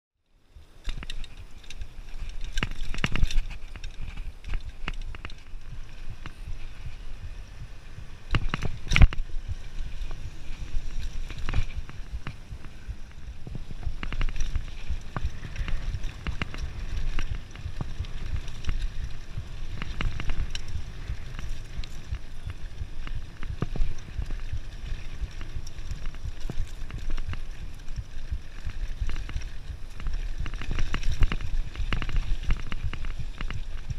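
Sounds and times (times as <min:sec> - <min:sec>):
bike tyres on dirt: 0:00.2 - 0:33.9
bike rattling over bumps: 0:00.4 - 0:33.9
low rumble: 0:01.2 - 0:33.9.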